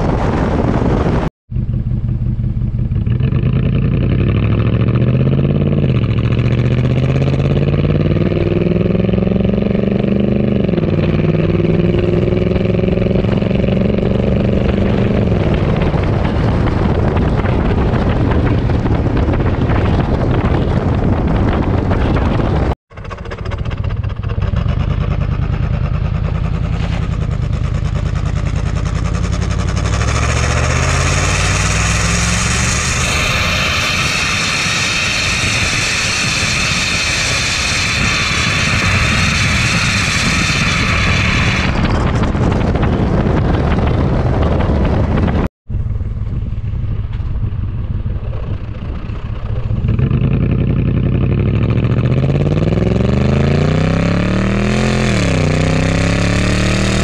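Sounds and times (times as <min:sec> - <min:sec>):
truck engine accelerating: 0:00.0 - 0:57.0.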